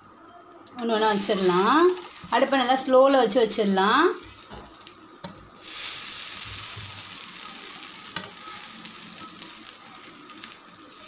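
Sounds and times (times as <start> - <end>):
butter sizzling on a griddle: 0.8 - 11.0.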